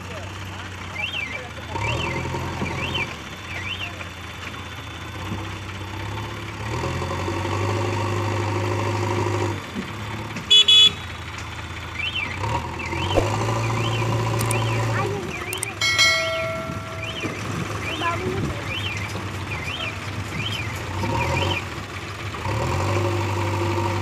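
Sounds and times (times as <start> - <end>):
diesel engine revving under load: 0.0 - 24.0.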